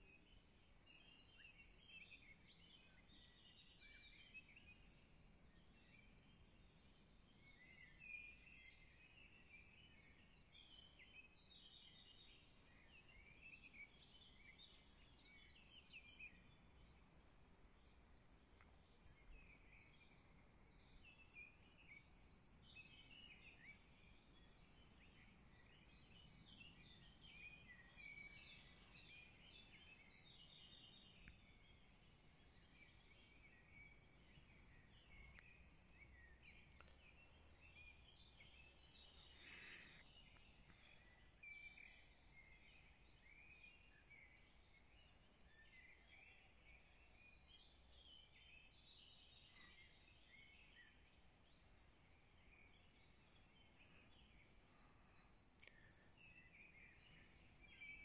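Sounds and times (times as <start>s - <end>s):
faint songbird chorus: 0.0s - 58.0s.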